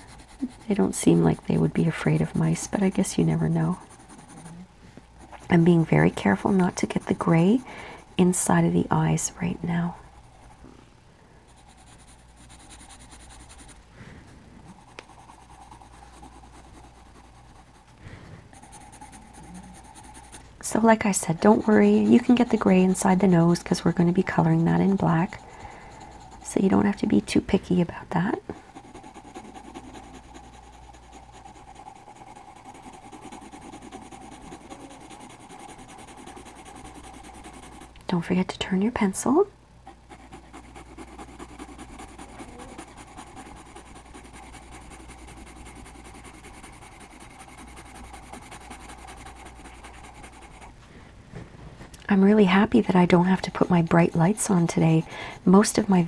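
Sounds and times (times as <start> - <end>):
pencil scratching on paper: 0.0 - 10.6, 11.5 - 13.8, 14.7 - 38.0, 39.9 - 50.8, 52.5 - 56.0.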